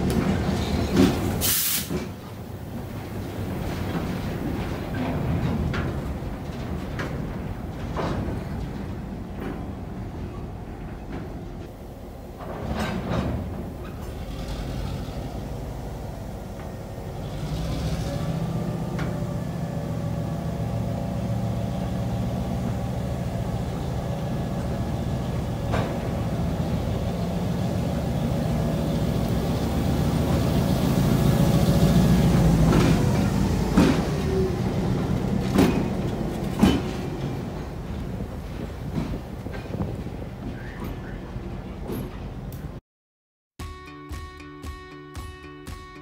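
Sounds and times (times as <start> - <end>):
diesel locomotive engine drone: 0.0 - 42.8
metallic clanks from train: 0.0 - 42.8.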